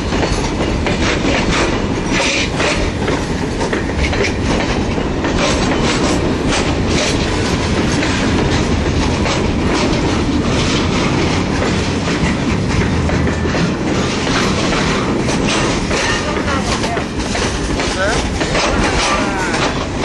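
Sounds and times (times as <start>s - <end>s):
wheels clacking over rail joints: 0.0s - 20.0s.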